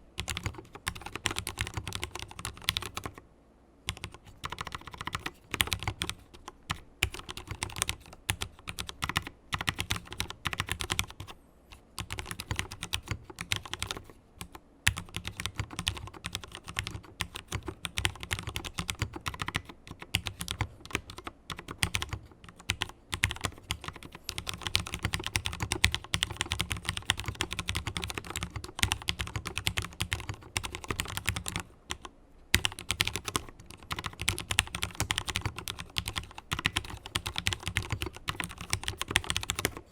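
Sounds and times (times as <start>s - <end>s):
mechanical keyboard typing: 0.2s - 3.2s, 3.9s - 11.4s, 12.0s - 39.9s.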